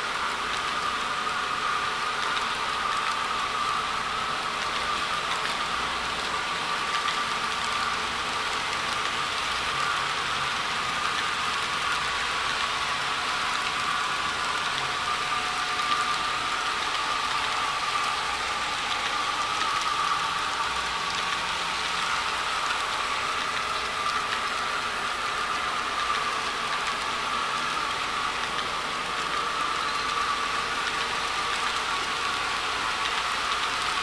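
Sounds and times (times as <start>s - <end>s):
model train cars rolling on track: 0.0s - 34.0s.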